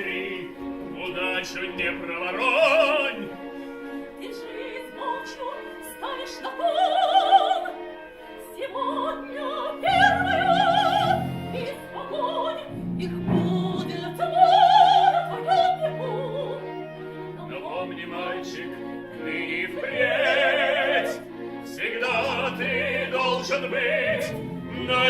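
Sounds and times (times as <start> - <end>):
operatic singing: 0.0 - 25.0
orchestral accompaniment: 0.0 - 25.0.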